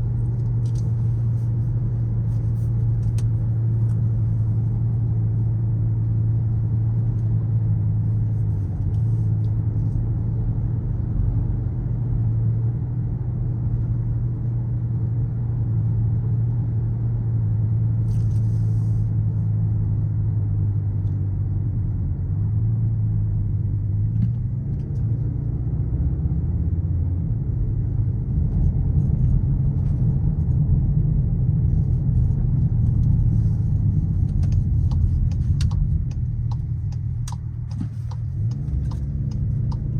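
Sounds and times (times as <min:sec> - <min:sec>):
car engine and exhaust droning: 0:00.0 - 0:39.9
road rumble: 0:00.0 - 0:39.9.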